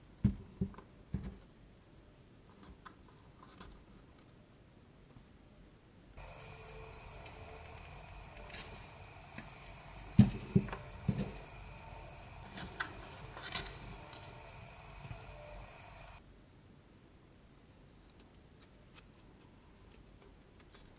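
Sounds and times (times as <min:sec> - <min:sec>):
faint steady hum: 0:00.0 - 0:18.7.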